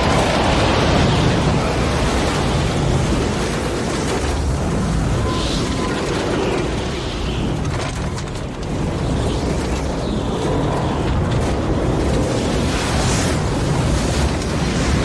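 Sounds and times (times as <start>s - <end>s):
strong gusting wind: 0.0s - 15.0s.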